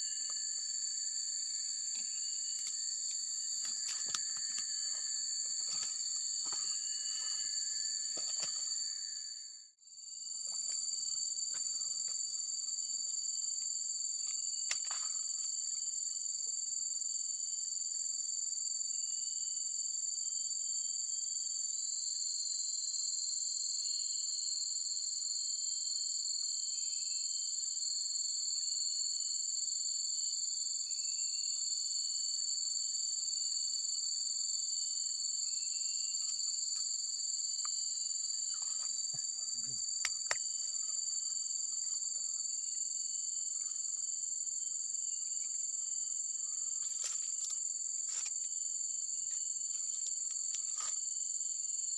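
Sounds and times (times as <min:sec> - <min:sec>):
insects chorus: 0:00.0 - 0:51.9.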